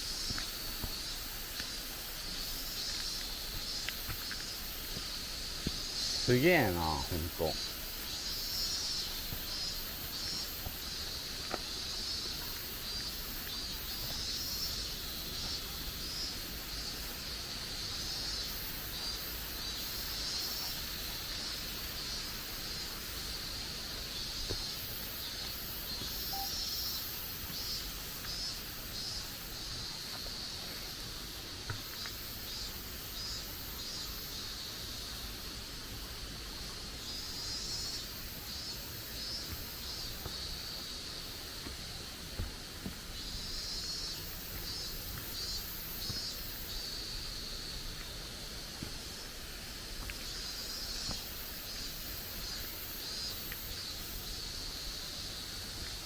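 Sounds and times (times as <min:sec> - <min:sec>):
insects chorus pulsing: 0:00.0 - 0:56.0.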